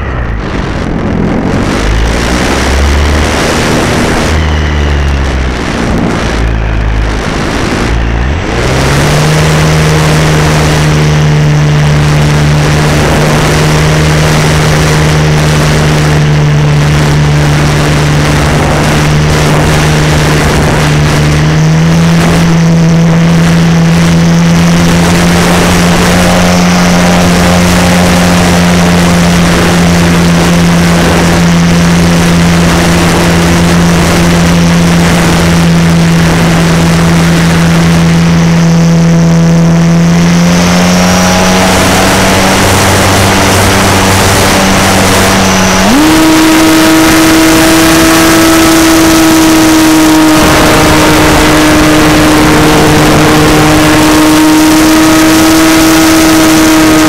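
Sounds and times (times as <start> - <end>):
model plane motor droning: 0.0 - 57.0
wind rushing: 0.0 - 57.0.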